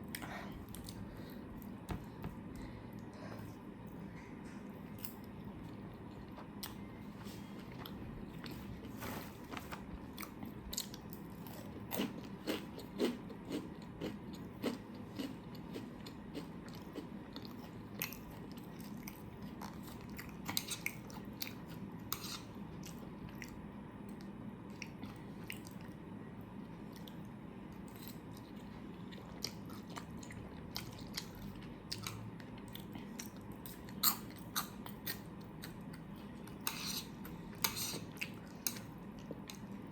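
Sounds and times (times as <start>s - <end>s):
person chewing food: 0.0s - 9.0s, 9.7s - 39.9s.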